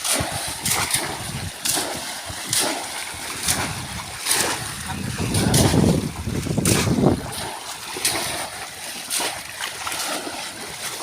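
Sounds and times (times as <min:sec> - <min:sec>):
splashing in shallow water: 0:00.0 - 0:11.0.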